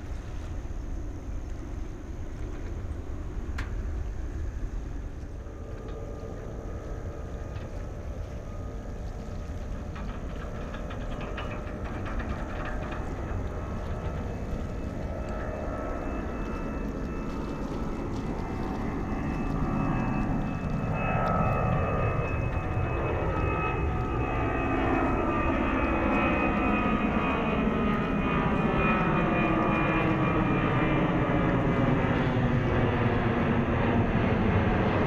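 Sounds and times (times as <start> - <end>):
jet engines roaring at takeoff: 0.0 - 35.0.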